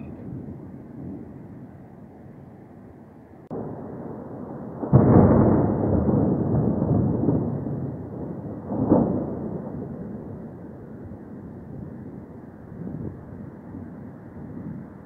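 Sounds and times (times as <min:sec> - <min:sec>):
thunder: 0:00.0 - 0:01.8, 0:03.4 - 0:15.0.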